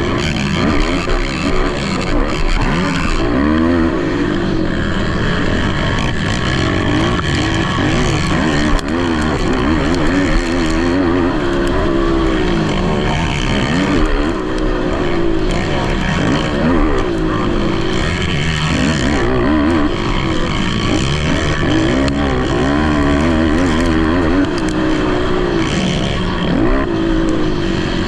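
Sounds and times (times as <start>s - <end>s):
quad engines revving: 0.0s - 28.0s.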